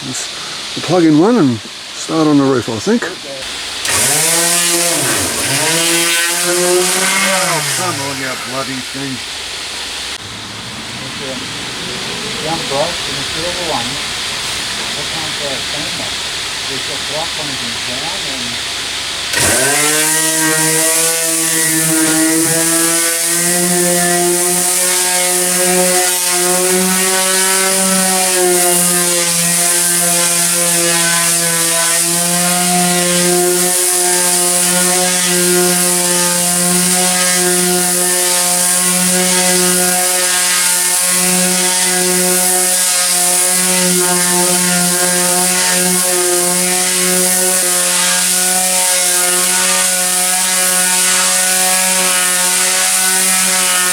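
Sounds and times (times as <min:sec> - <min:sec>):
electric sander on metal: 0:00.0 - 0:53.9.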